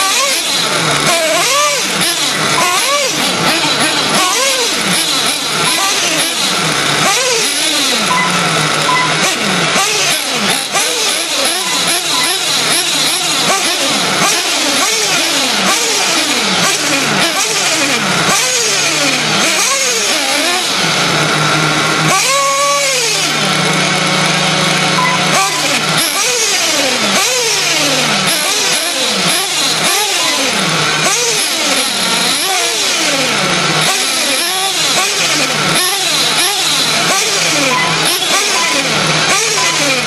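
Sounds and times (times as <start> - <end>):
rc truck motors whining: 0.0 - 40.0.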